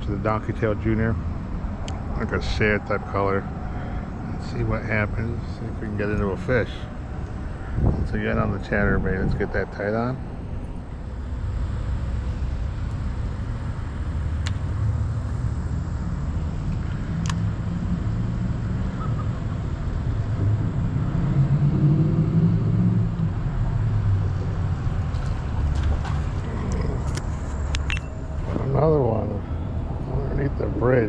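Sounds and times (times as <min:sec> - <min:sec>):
road traffic rumble: 0:00.0 - 0:31.0
vehicle passing: 0:00.9 - 0:31.0.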